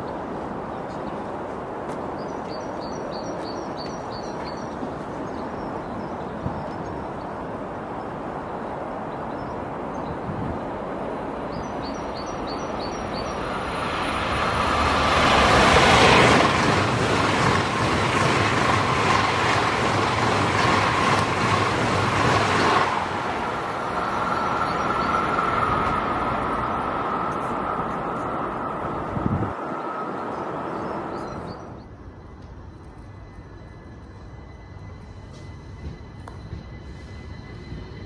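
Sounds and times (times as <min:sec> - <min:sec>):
high-speed train passing: 0:00.0 - 0:38.0.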